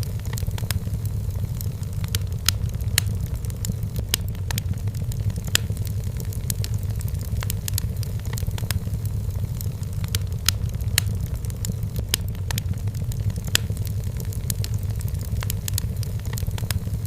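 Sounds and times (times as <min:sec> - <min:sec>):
firewood crackling and popping: 0:00.0 - 0:17.0
low rumble of flames: 0:00.0 - 0:17.0.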